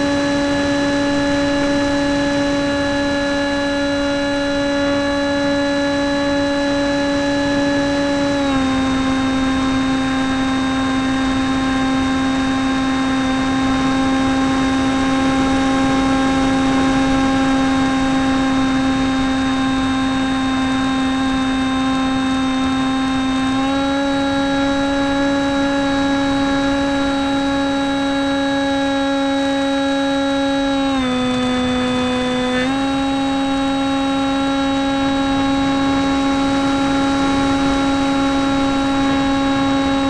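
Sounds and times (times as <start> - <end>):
model airplane motor whine: 0.0 - 40.0.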